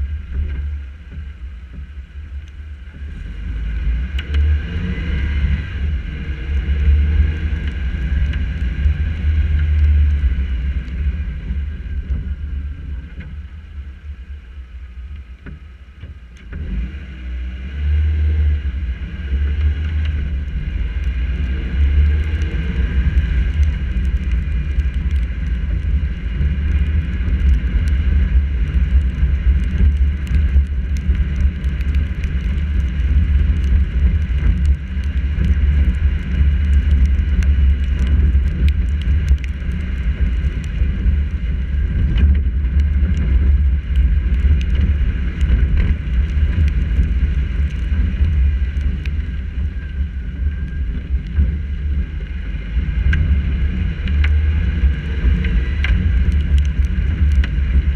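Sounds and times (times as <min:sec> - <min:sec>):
wind buffeting camera: 0:00.0 - 0:14.4, 0:15.1 - 0:57.9
car engine and tyre rumble: 0:00.0 - 0:57.9
raindrops ticking on camera: 0:00.0 - 0:57.9.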